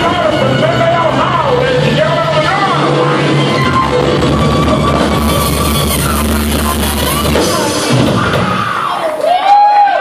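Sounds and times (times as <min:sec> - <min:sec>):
rock band playing held chord: 0:00.0 - 0:09.1.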